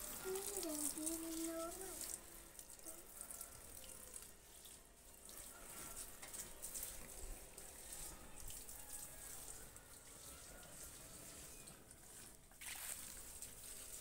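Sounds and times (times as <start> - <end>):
water splashing from garden hose: 0.0 - 14.0.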